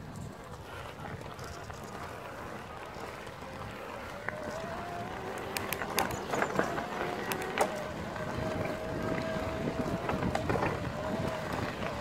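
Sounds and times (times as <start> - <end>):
bike clicks and rattles: 0.0 - 12.0
tyres crunching on gravel: 0.1 - 12.0.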